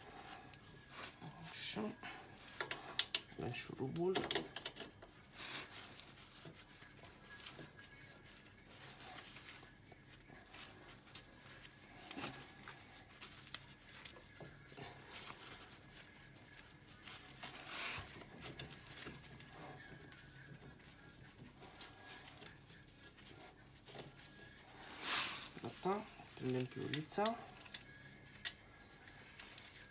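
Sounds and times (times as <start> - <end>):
glove rustling: 4.8 - 29.9.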